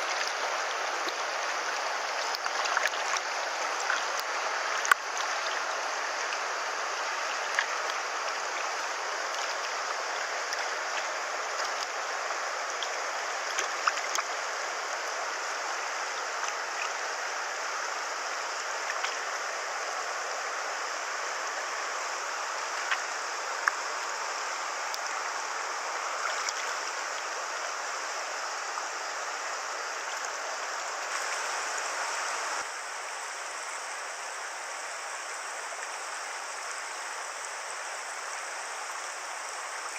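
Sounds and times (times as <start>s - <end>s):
small water splashes: 0.0s - 32.8s
river water flowing: 0.0s - 39.9s.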